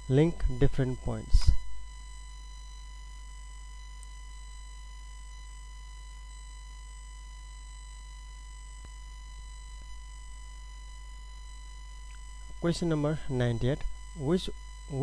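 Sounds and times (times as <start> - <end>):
high-pitched electrical whine: 0.0 - 15.0
low mains hum: 0.0 - 15.0.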